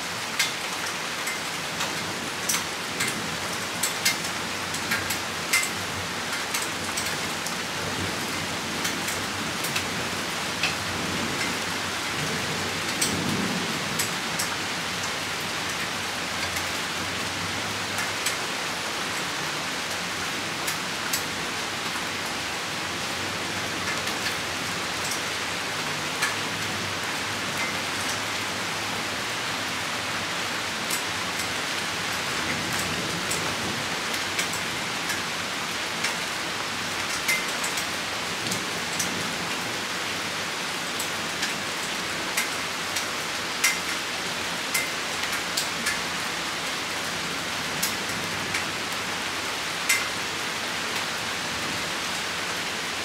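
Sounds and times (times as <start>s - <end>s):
rain shower falling: 0.0s - 53.0s.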